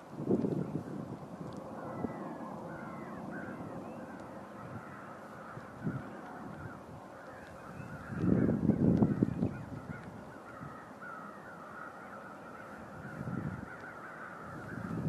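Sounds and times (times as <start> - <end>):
flock of birds calling: 0.5 - 15.0.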